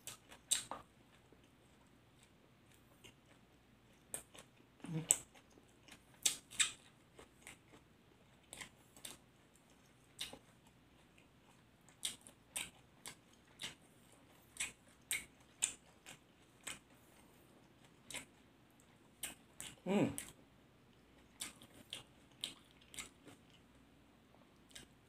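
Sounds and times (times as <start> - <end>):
crunchy chewing: 0.0 - 25.0.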